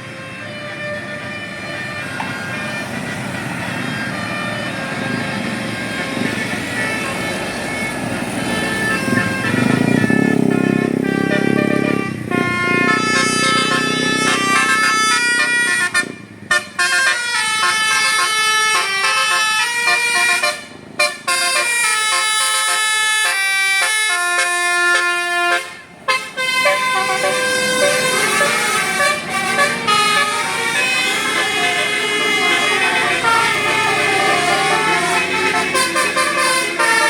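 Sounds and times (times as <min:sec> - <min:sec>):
bus musical horn playing a tune: 0:00.0 - 0:37.0.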